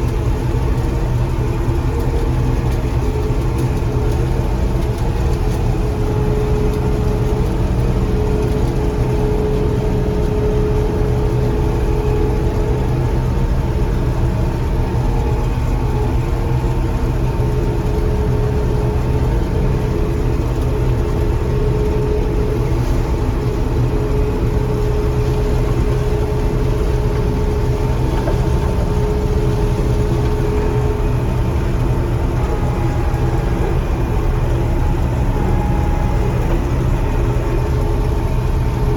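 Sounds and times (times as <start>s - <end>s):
combine harvester engine drone: 0.0s - 38.9s
steady machine whine: 0.0s - 38.9s.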